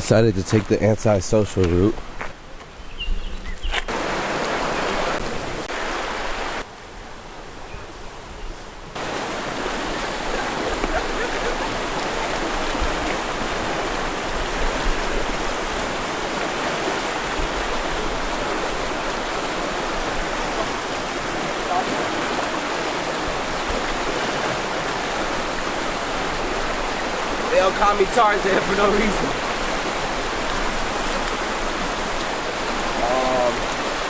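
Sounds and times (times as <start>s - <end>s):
rushing water of creek and falls: 0.0s - 34.0s.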